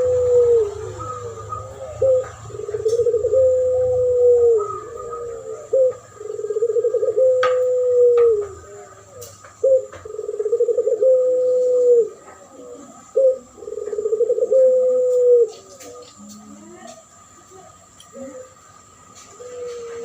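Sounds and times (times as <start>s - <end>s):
dove cooing: 0.0s - 17.1s, 17.7s - 20.0s.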